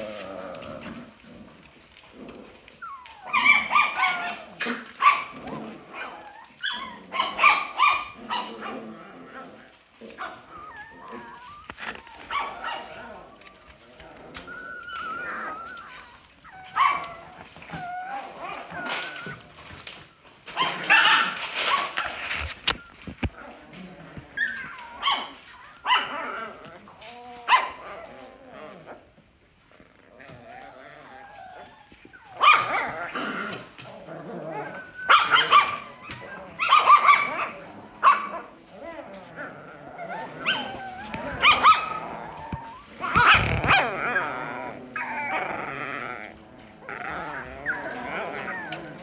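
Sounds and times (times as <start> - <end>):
puppies yipping and whining: 0.0 - 49.0.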